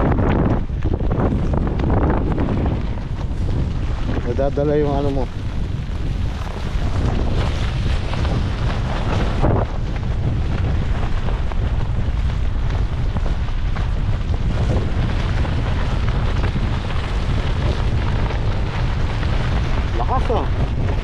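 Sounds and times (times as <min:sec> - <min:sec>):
wind buffeting the microphone: 0:00.0 - 0:21.0
heavy rain spattering: 0:01.1 - 0:21.0.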